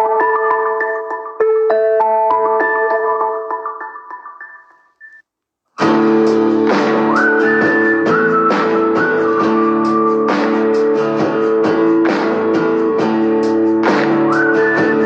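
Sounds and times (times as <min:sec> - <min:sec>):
guitar ringtone tune: 0:00.0 - 0:05.2, 0:05.8 - 0:15.0.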